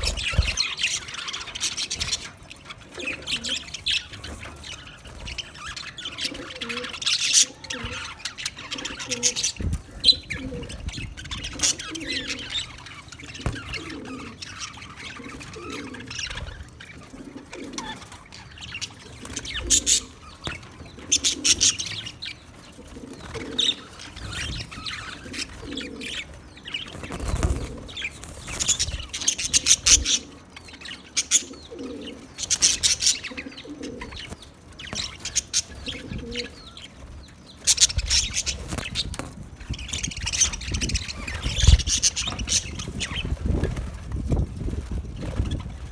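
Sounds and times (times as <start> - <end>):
budgerigars chirping: 0.0 - 45.9.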